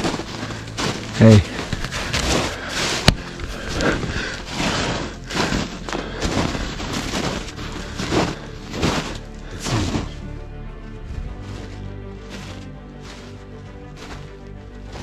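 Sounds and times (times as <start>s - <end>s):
slow heavy beat music: 0.0s - 15.0s.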